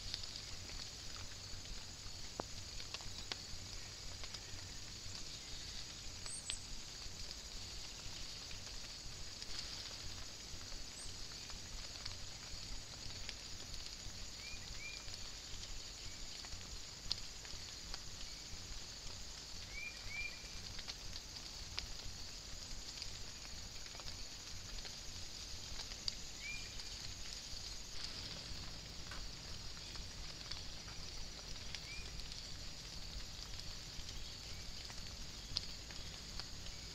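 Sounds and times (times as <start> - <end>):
light ticks: 0.0 - 36.9
steady high hiss: 0.0 - 36.9.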